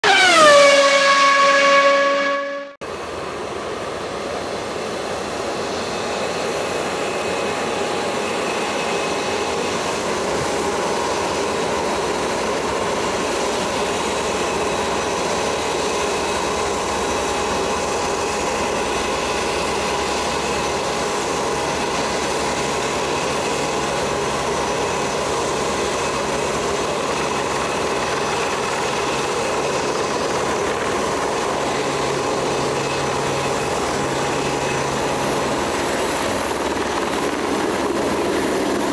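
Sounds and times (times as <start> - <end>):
turbine aircraft running: 0.0 - 38.9.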